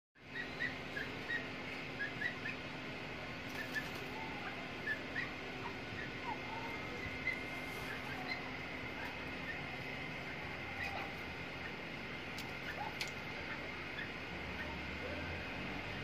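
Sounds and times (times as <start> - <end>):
bird chicks peeping: 0.2 - 2.8, 3.4 - 14.8.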